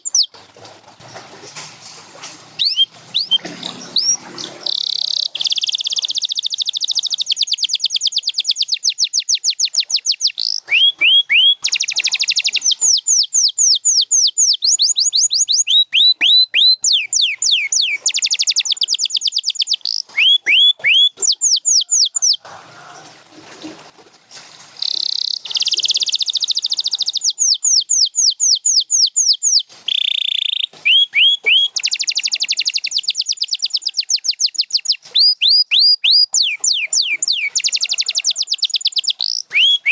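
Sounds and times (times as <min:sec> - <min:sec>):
canary singing trills: 0:00.0 - 0:00.4, 0:02.6 - 0:23.1, 0:24.8 - 0:39.9.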